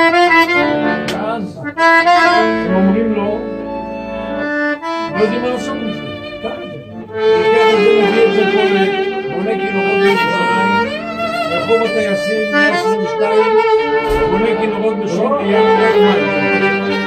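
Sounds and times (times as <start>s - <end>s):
accordion playing: 0.0s - 17.0s
violin melody: 0.0s - 17.0s.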